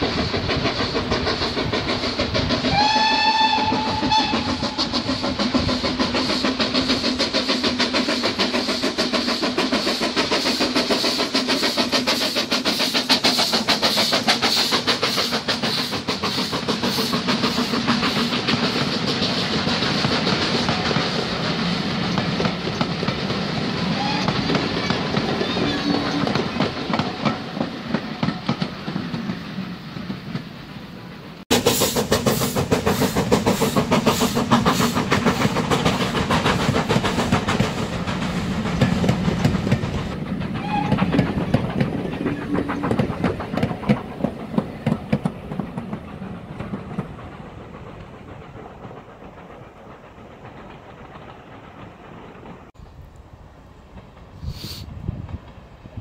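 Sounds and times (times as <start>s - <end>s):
train wheels clattering over rail joints: 0.0s - 30.6s, 31.5s - 52.8s.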